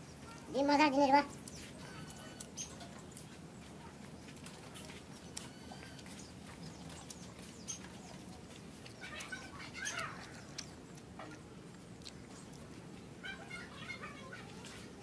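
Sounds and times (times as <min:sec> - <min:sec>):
low background noise: 0:00.0 - 0:15.0
mouth clicks and smacks eating: 0:01.3 - 0:13.5.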